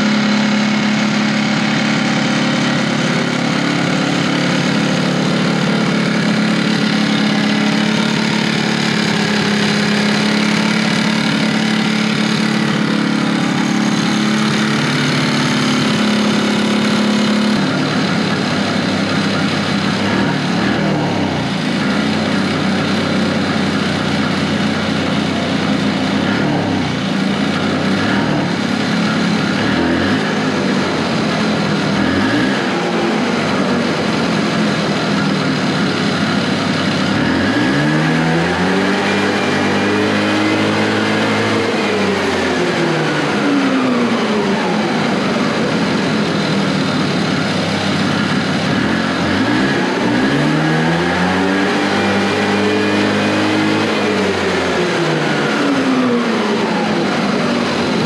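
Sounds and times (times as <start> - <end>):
two-stroke engine running: 0.0 - 58.0.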